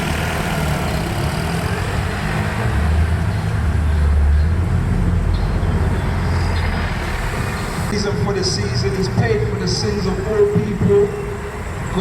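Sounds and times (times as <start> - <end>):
large vehicle rumbling: 0.0 - 12.0.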